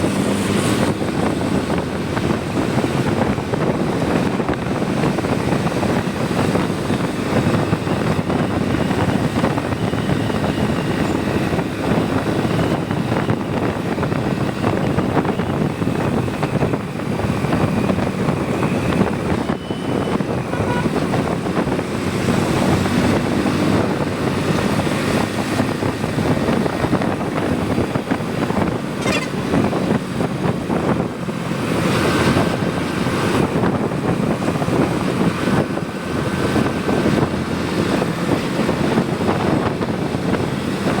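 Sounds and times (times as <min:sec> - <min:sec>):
motorcycle engine running: 0:00.0 - 0:41.0
road and wind noise: 0:00.0 - 0:41.0.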